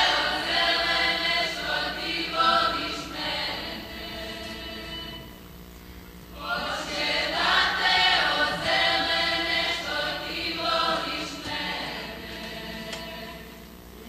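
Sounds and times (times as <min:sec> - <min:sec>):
group singing folk song: 0:00.0 - 0:05.3, 0:06.4 - 0:13.6.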